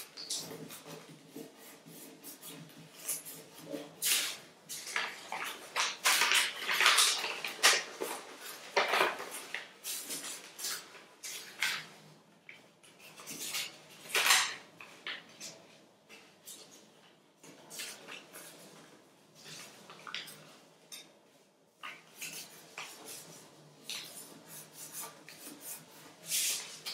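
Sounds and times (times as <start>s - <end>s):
paper rustling and crackling: 0.0s - 12.1s, 12.8s - 20.6s, 21.8s - 26.9s.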